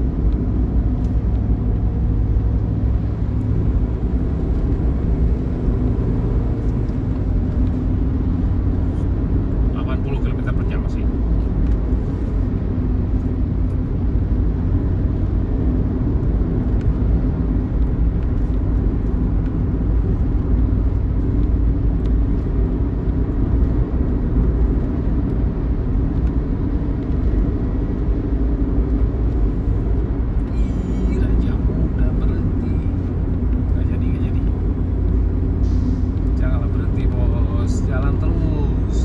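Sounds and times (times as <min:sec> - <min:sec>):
bus engine rumble: 0:00.0 - 0:39.0
road noise: 0:00.0 - 0:39.0.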